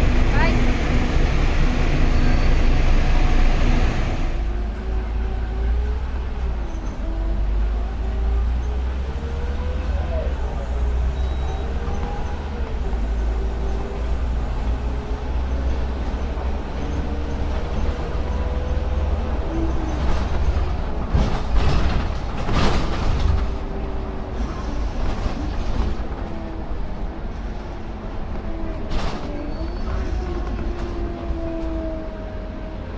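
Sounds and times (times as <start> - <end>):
bus diesel engine rumble: 0.0 - 32.9.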